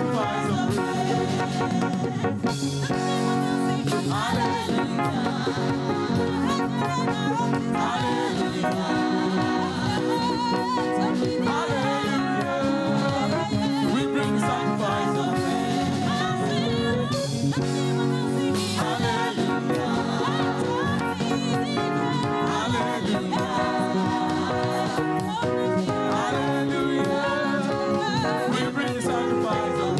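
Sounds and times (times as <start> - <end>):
band playing gospel music: 0.0 - 29.9
choir singing: 0.0 - 29.9.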